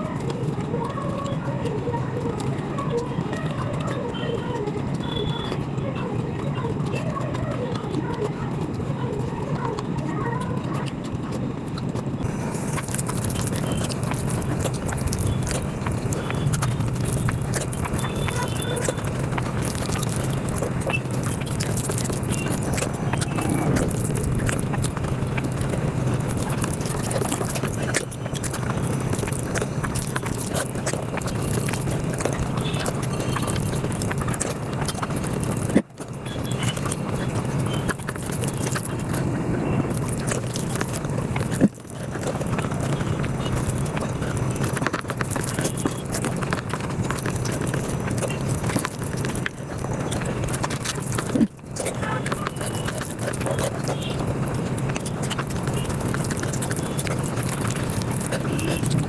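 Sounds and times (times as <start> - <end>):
sped-up chewing and mouth clicks: 0.0 - 59.0.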